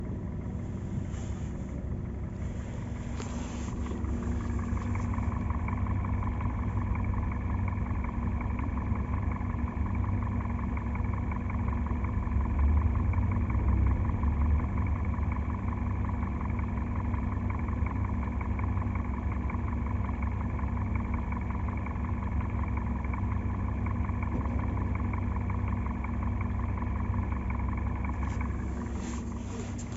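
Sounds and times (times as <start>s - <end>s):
car engine running from inside cabin: 0.0s - 29.9s.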